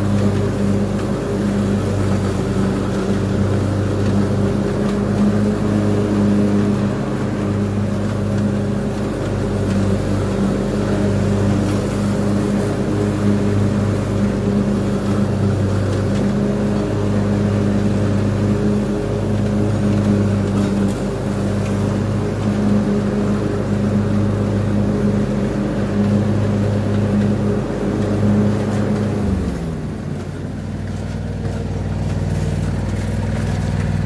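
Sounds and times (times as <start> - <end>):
mower engine droning: 0.0 - 34.0.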